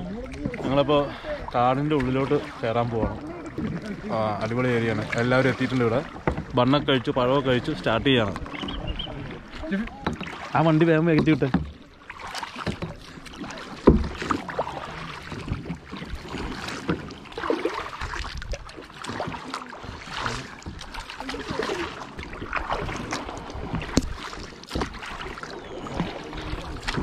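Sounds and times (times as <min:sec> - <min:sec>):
paddles splashing in water: 0:00.0 - 0:27.0.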